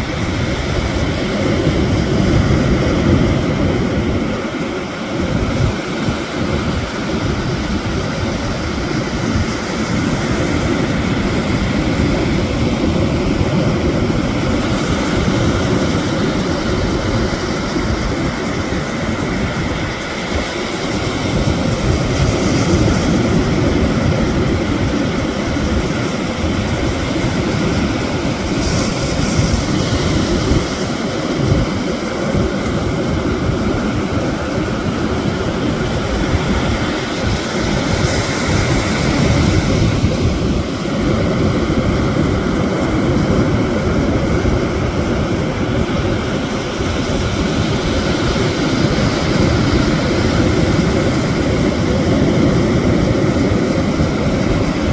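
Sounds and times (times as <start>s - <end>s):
surf washing over stones: 0.0s - 54.9s
wind: 0.0s - 54.9s.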